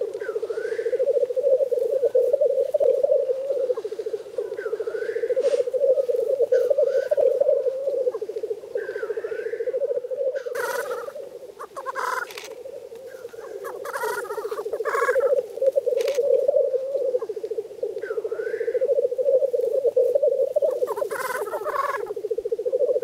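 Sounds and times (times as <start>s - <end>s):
grouse bubbling cooing song: 0.0s - 23.0s
harsh hissing bird calls: 0.0s - 23.0s.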